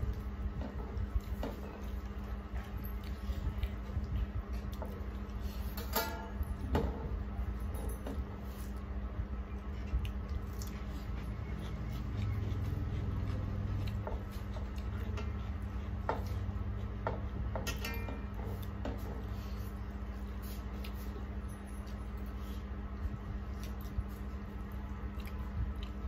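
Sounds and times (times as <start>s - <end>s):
chewing: 0.0s - 5.7s, 9.5s - 17.5s, 18.5s - 26.0s
steady low hum: 0.0s - 26.0s.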